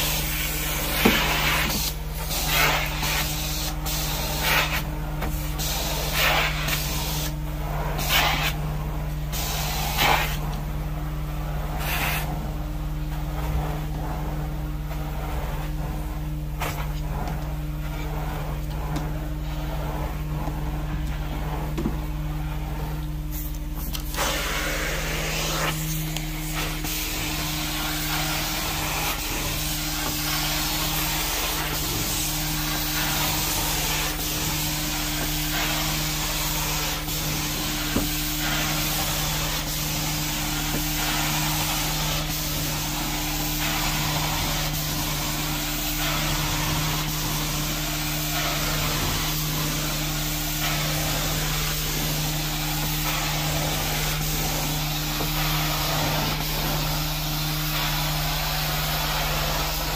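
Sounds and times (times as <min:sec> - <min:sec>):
cleaning machine humming: 0:00.0 - 0:59.9
steam cleaner wand hissing: 0:00.0 - 0:59.9.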